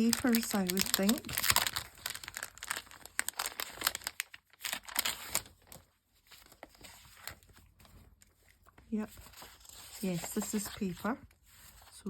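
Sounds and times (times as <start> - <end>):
paper packaging crinkling: 0.0 - 12.0.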